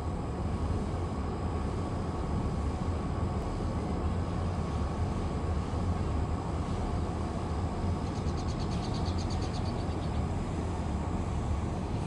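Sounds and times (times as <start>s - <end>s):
faint thin whine: 0.0s - 12.0s.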